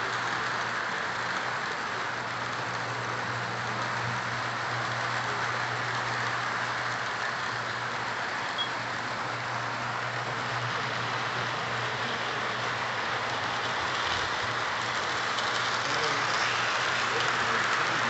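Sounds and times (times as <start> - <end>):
model train wheels clattering: 0.0 - 18.0.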